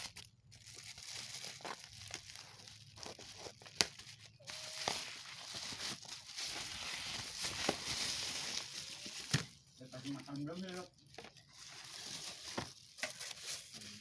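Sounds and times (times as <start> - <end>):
packaging crinkling and tearing: 0.0 - 14.0.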